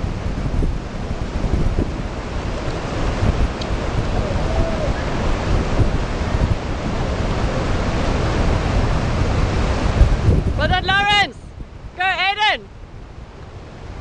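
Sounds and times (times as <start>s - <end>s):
wind buffeting microphone: 0.0s - 12.0s
river rushing through rapids: 0.0s - 14.0s.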